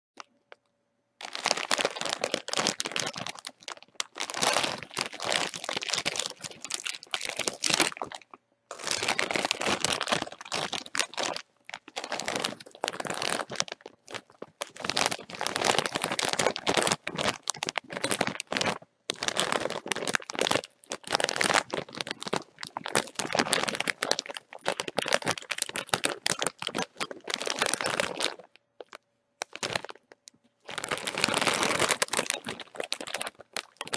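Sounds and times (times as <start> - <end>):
plastic chip bag crinkling: 1.2 - 33.9.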